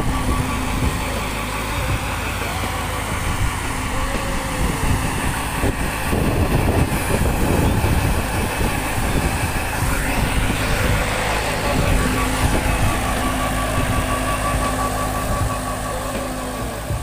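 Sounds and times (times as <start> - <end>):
sprayer fan blowing: 0.0 - 17.0
tractor diesel engine running: 0.0 - 17.0.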